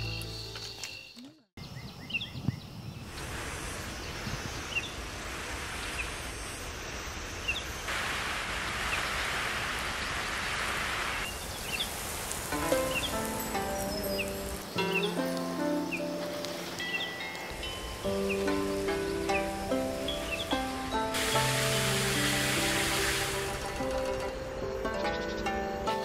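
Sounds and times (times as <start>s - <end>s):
garden hose spraying water: 3.1s - 24.7s.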